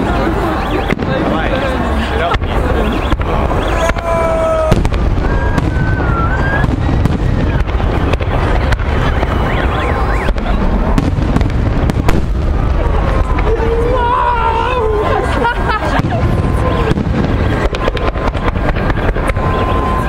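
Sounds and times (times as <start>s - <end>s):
continuous rumble: 0.0s - 20.0s
fireworks bangs: 0.0s - 20.0s.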